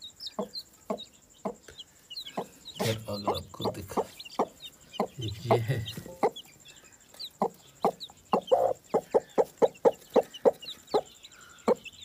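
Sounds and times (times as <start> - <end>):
chicks peeping: 0.0 - 12.0
hen clucking: 0.2 - 12.0.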